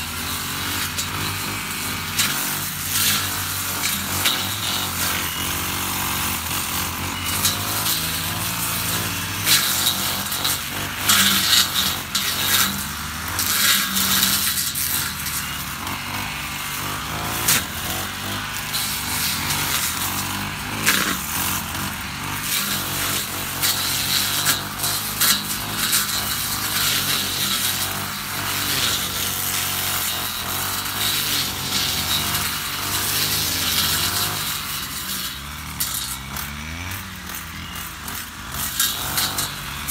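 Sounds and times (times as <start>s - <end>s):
brush cutter engine: 0.0s - 39.9s
blade slashing through grass: 0.2s - 36.5s, 37.8s - 39.9s.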